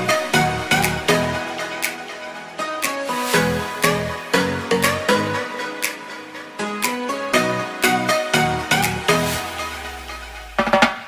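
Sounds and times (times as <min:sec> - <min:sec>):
intro music with steady beat: 0:00.0 - 0:11.0.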